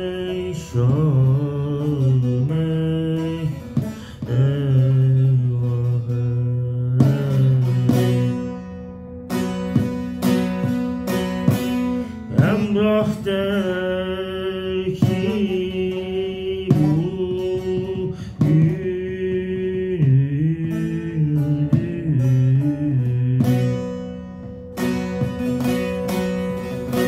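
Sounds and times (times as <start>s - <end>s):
man singing: 0.0s - 8.7s, 11.7s - 27.0s
plucked lute: 0.0s - 27.0s.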